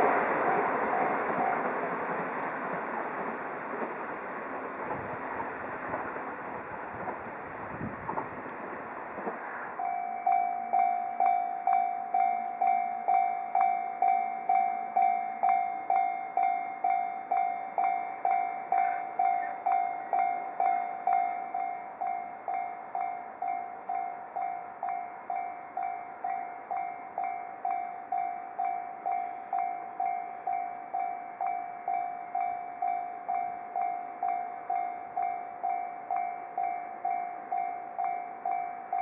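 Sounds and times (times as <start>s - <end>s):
railroad crossing bell ringing: 0.0s - 39.0s.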